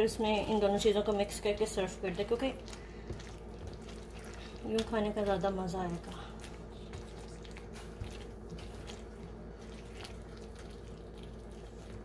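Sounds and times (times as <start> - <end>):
wet squelches of stirred sauce: 0.0 - 12.0.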